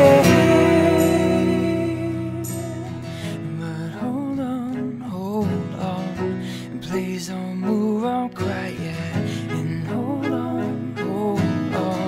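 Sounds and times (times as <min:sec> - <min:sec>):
pop ballad music: 0:00.0 - 0:12.0.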